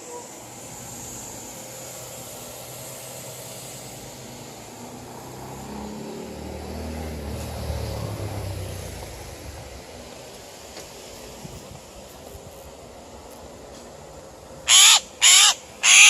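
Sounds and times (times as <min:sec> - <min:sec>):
passing vehicle engine rumble: 0:00.3 - 0:14.6.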